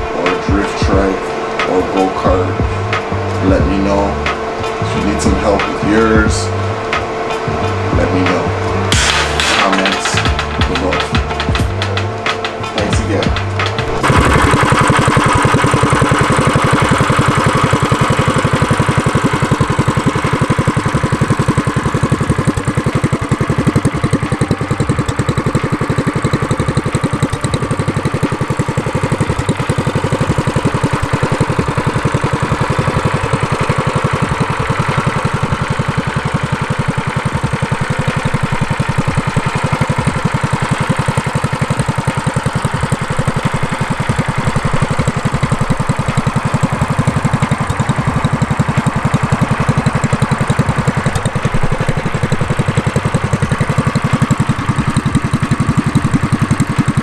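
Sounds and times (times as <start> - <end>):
mini bike engine idling: 0.0 - 57.0.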